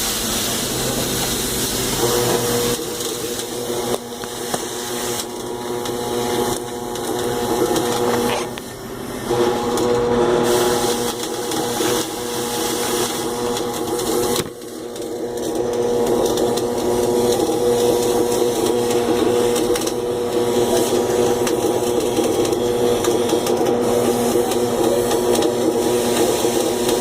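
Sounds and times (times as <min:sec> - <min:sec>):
arc welder hum: 0:00.0 - 0:27.0
welding arc crackling: 0:00.0 - 0:27.0.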